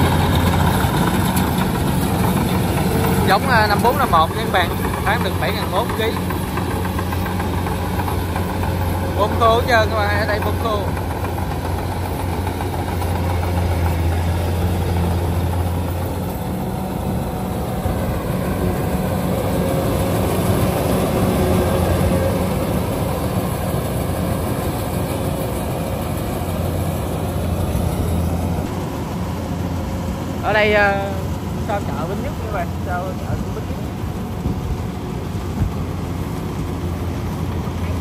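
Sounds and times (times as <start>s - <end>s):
combine harvester engine drone: 0.0s - 38.0s.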